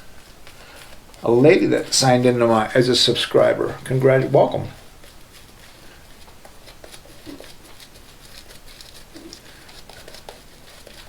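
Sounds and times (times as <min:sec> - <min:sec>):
razor scratching stubble: 0:00.0 - 0:11.0.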